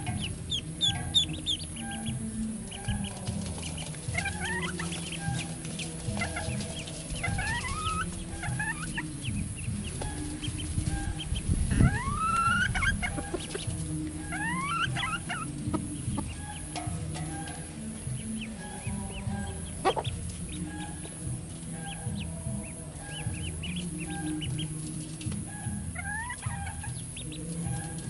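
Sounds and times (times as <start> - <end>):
ducklings peeping: 0.0 - 28.0.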